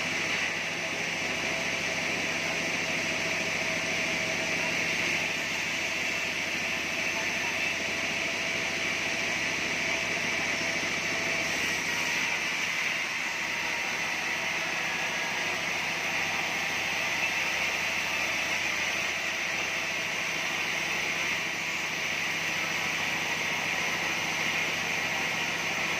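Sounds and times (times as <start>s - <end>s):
band saw whirring hiss: 0.0s - 25.9s.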